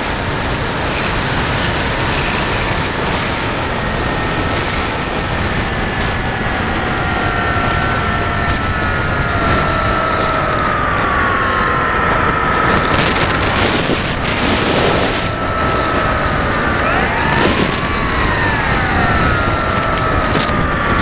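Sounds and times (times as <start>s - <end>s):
motor and propeller whine: 0.0s - 21.0s
wind rushing over microphone: 0.0s - 21.0s.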